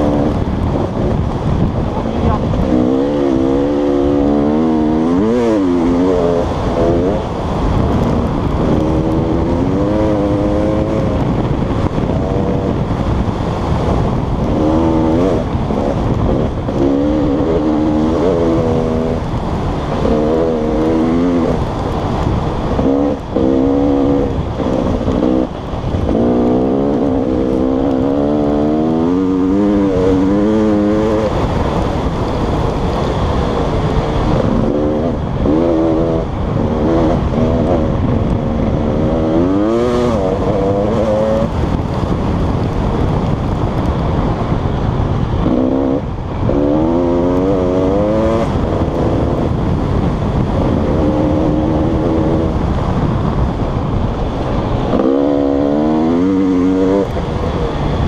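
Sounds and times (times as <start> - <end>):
dirt bike engine revving: 0.0 - 43.1, 45.2 - 58.0
wind rush on microphone: 0.0 - 58.0.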